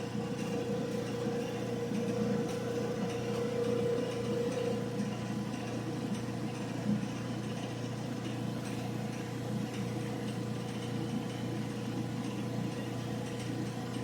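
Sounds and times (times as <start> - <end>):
clothes dryer motor humming: 0.0 - 14.0.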